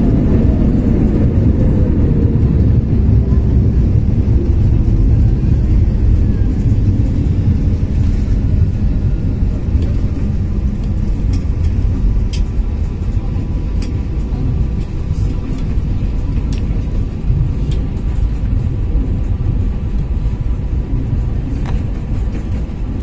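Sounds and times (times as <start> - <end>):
airliner engine and wheel rumble: 0.0 - 23.0.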